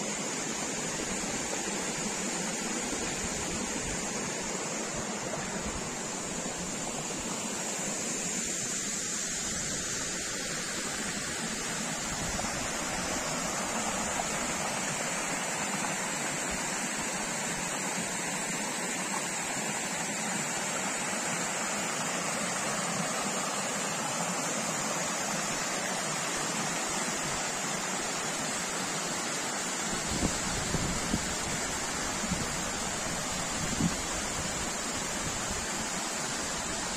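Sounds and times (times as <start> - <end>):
waterfall and running stream: 0.0 - 36.9.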